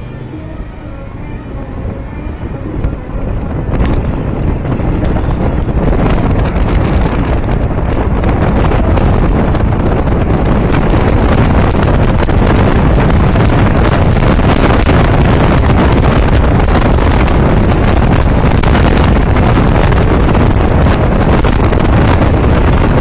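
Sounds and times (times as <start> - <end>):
car engine: 0.0 - 23.0
road noise: 0.0 - 23.0
wind buffeting microphone: 0.0 - 23.0.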